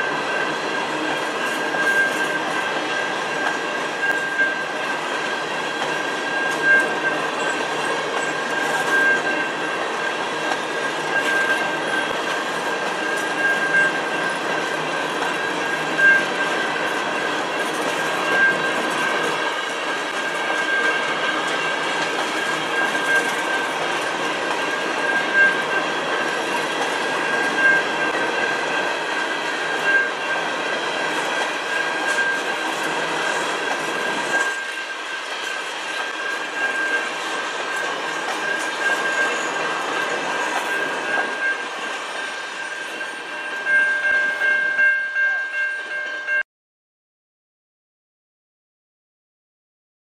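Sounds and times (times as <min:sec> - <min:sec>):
crossing warning bell ringing: 0:00.0 - 0:46.4
freight train wheels rumbling: 0:00.0 - 0:46.4.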